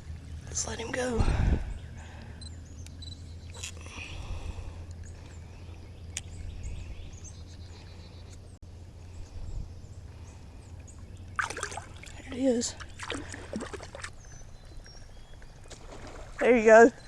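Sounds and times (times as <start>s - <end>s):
low rumble: 0.0s - 15.6s
birds chirping: 0.0s - 17.0s.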